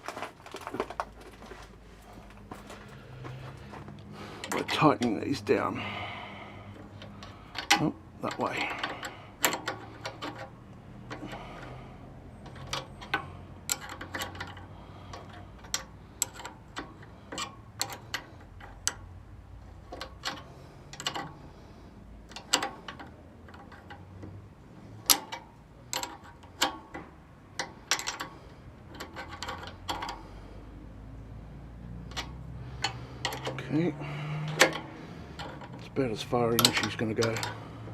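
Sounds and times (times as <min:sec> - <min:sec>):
hand tools clicking on metal bolts: 0:04.2 - 0:21.6, 0:22.2 - 0:30.8, 0:31.8 - 0:37.9.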